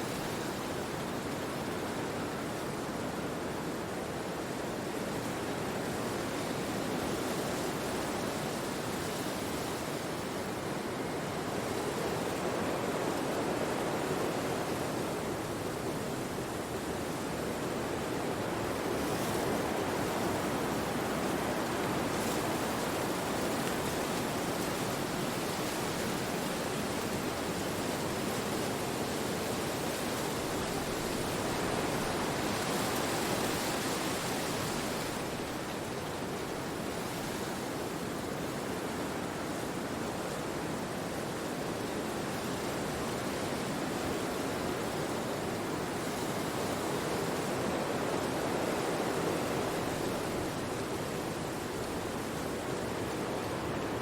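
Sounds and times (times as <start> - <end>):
wind through trees: 0.0 - 54.0.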